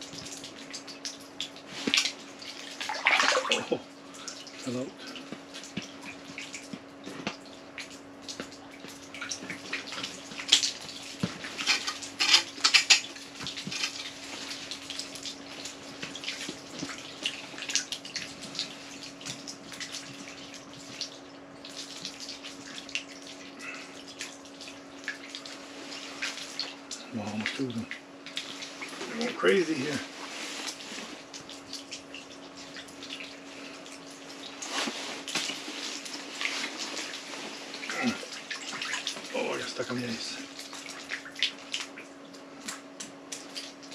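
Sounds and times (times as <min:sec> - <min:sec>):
small wet splashes and crackles: 0:00.0 - 0:43.9
steady low hum: 0:00.0 - 0:43.9.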